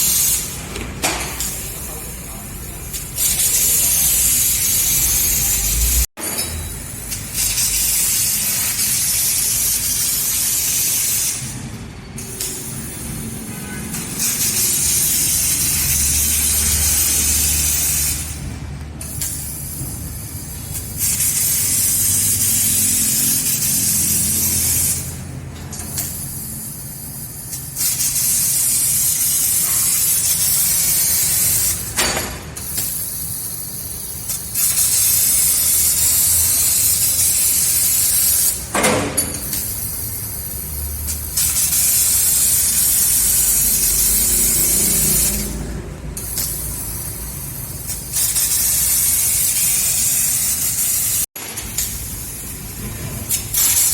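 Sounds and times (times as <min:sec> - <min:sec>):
laser cutter gas hissing: 0:00.0 - 0:53.9.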